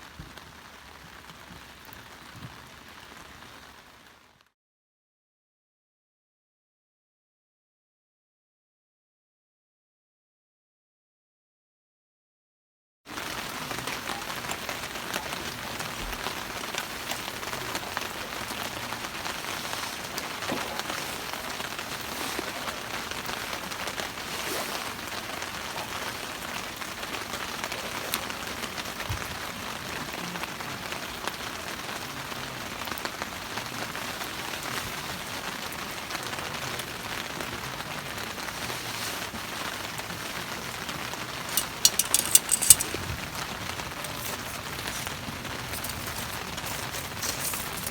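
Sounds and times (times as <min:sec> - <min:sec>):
steady rain falling: 0:00.0 - 0:04.5, 0:13.1 - 0:47.9.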